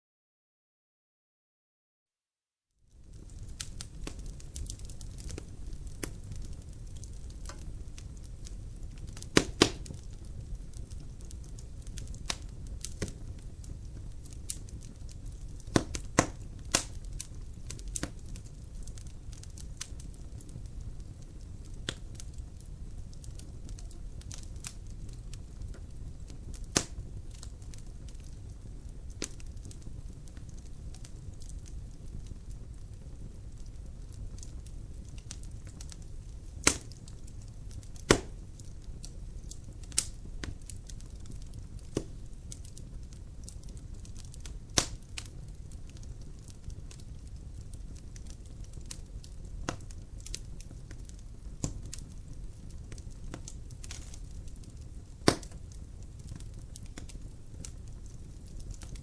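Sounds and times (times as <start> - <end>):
wood fire crackling: 2.9 - 59.0.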